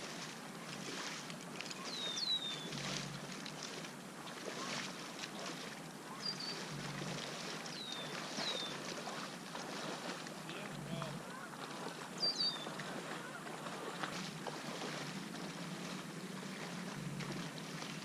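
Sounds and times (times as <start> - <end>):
bird warble: 0.7 - 3.8, 4.4 - 10.0, 10.6 - 18.0.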